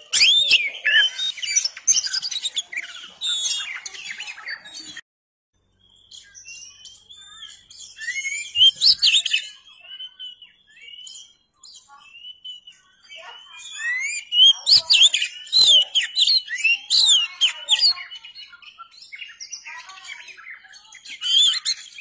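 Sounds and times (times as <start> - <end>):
bird singing whistles and chirps: 0.0 - 5.0, 5.7 - 22.0.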